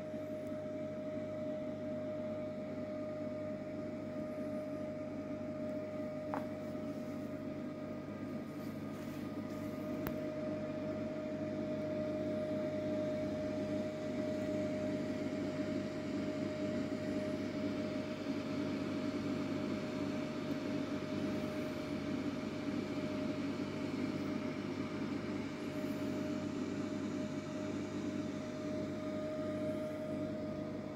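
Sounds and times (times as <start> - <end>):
aquarium pump humming: 0.0 - 30.9.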